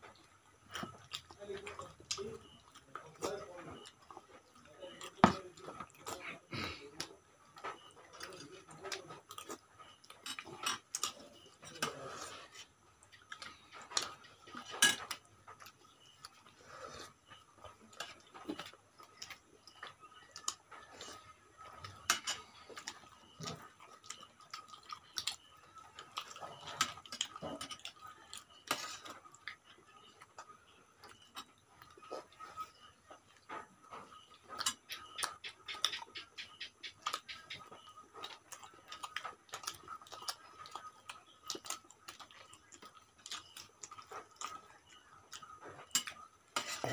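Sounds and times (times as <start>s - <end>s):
faint steady tone: 0.0s - 46.9s
chewing and lip smacks: 0.1s - 46.9s.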